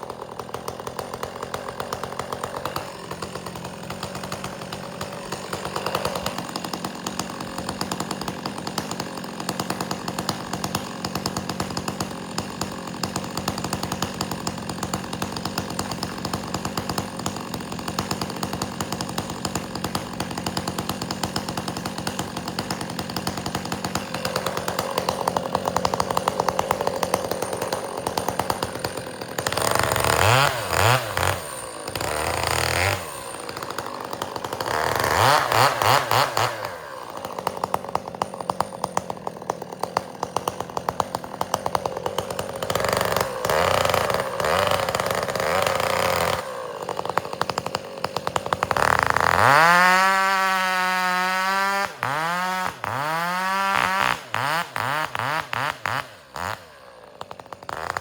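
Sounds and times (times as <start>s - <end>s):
chainsaw cutting firewood: 0.0s - 58.0s.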